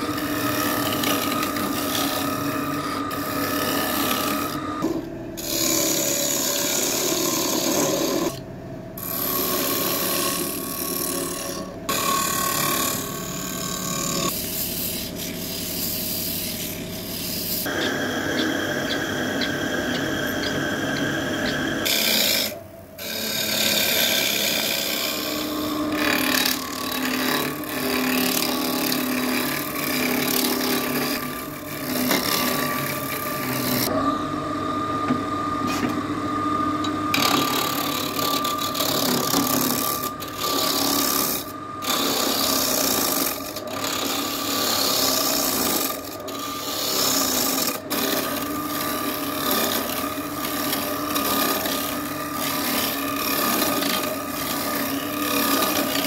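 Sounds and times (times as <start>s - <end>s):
tool rasping against spinning wood: 0.0s - 8.4s, 9.0s - 33.9s, 37.1s - 56.0s
wood lathe humming: 0.0s - 8.4s, 9.0s - 56.0s.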